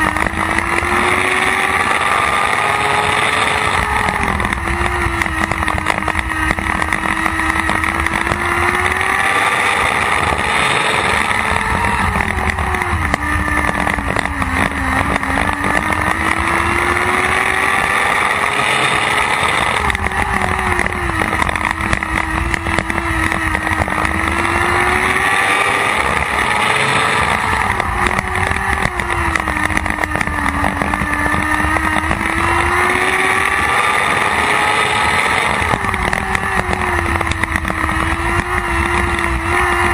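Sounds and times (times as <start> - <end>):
racing engine: 0.0 - 39.9
wind noise: 0.0 - 39.9.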